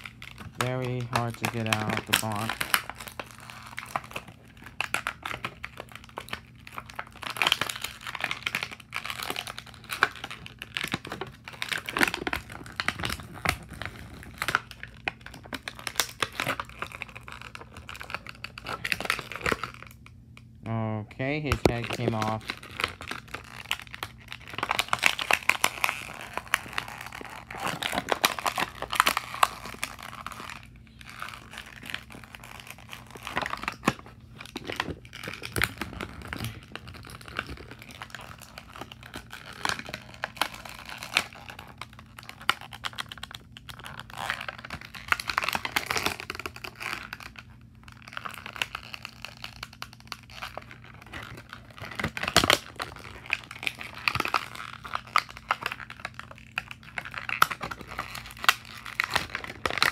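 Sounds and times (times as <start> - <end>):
packaging crinkling and crackling: 0.0 - 59.9.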